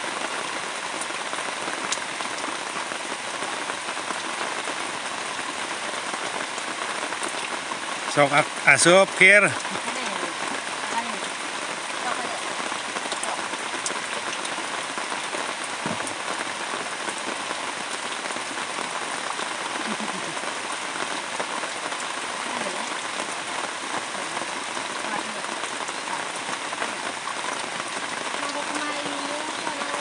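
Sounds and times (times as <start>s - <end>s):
rain falling steadily: 0.0s - 30.0s.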